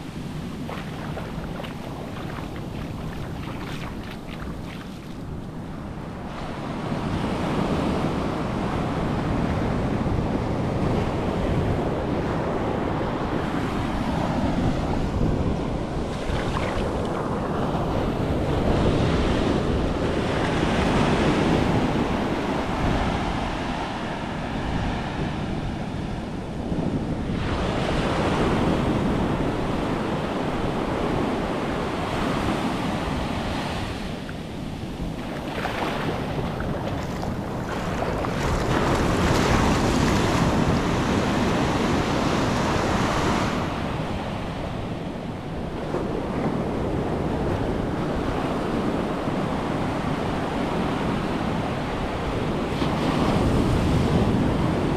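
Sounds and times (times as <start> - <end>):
ocean waves breaking on sand: 0.0 - 54.9
wind buffeting microphone: 0.0 - 54.9.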